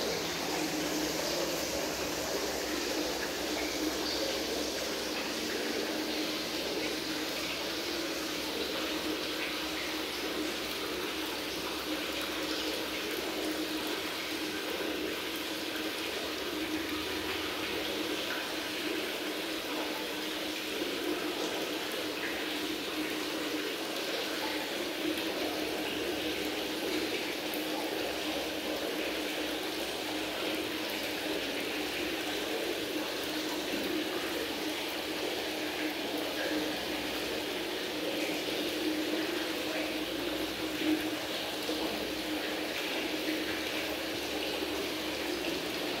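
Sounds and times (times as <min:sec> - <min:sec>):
water trickling: 0:00.0 - 0:46.0.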